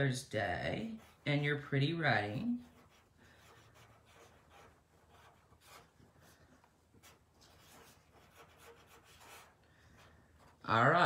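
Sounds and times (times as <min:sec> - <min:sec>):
marker scratching on paper: 0:00.7 - 0:11.0.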